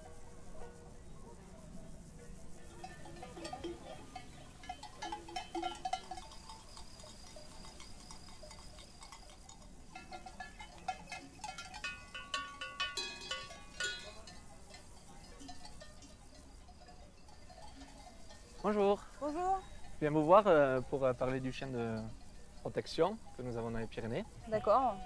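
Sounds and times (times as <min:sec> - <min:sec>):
sheep bells clanking: 0:02.4 - 0:25.0.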